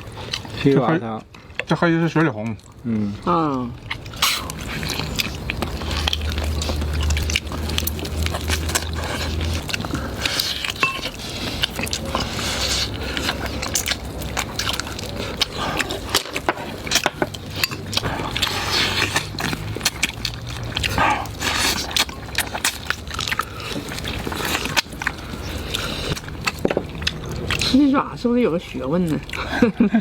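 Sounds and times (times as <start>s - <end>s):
crunches of cartilage and bones: 0.0s - 29.6s
person chewing wetly: 0.0s - 29.8s.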